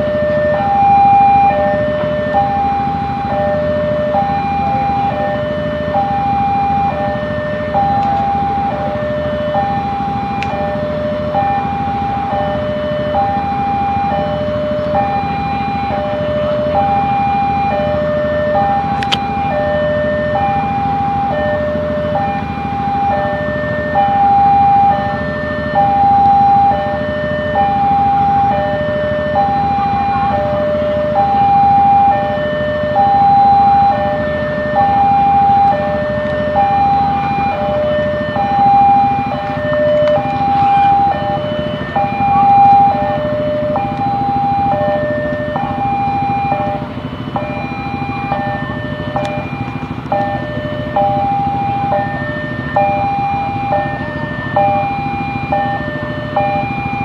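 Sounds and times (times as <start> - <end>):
railroad crossing alarm: 0.0 - 57.0.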